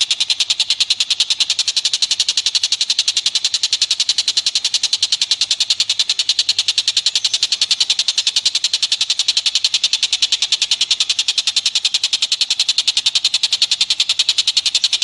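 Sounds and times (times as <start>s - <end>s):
rapid high-pitched bird chatter: 0.0s - 15.0s.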